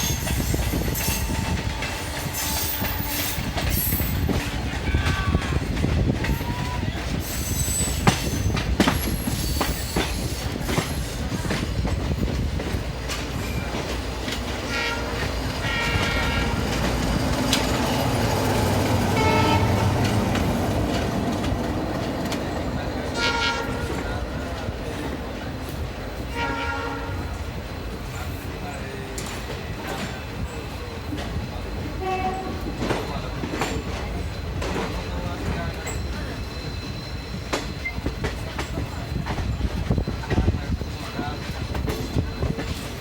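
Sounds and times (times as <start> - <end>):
train wheels clattering: 0.0 - 26.4, 27.4 - 43.0.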